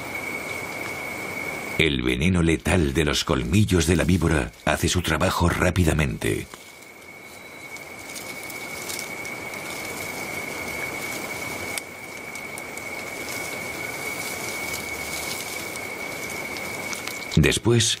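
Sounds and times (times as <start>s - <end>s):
background hiss: 0.0s - 18.0s
high-pitched insect trill: 0.0s - 18.0s.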